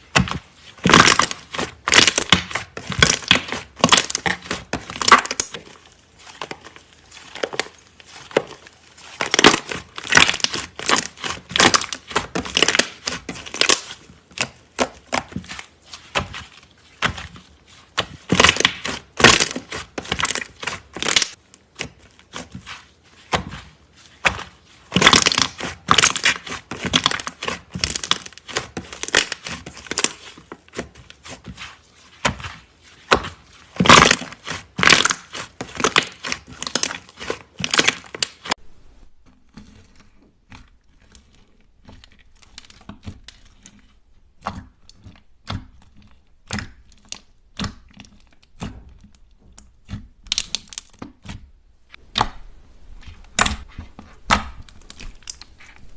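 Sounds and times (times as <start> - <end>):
slime crackling by hand: 0.0 - 55.9.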